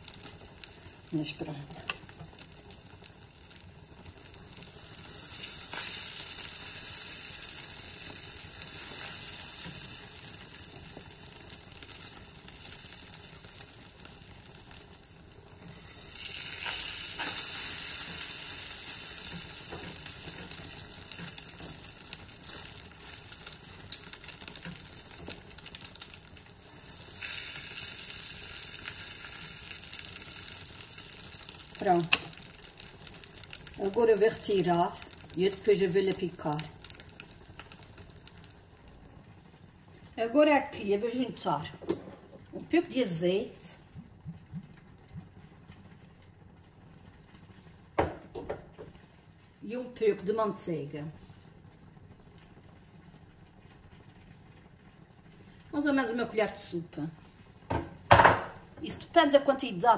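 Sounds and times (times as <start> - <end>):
eggs sizzling in a frying pan: 0.0 - 59.9.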